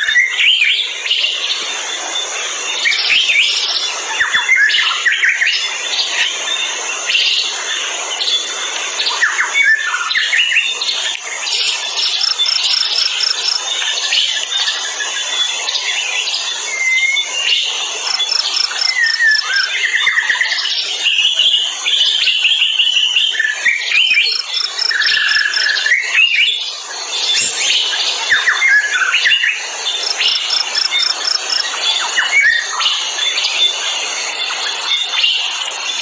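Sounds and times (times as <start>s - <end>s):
birds calling and chirping: 0.0s - 36.0s
insect chorus: 0.0s - 36.0s
high pulsing insect trill: 0.7s - 36.0s.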